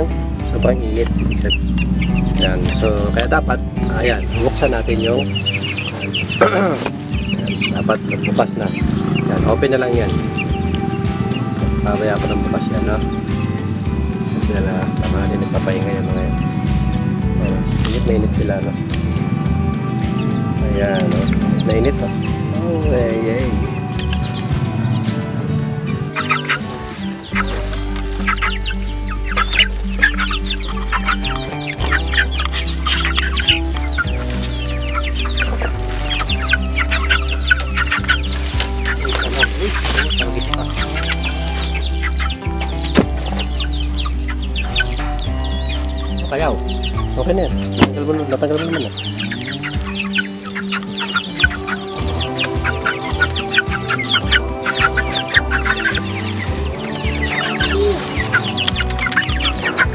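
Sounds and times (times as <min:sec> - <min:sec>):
background music with bass line: 0:00.0 - 0:59.9
chickens clucking: 0:00.0 - 0:59.9.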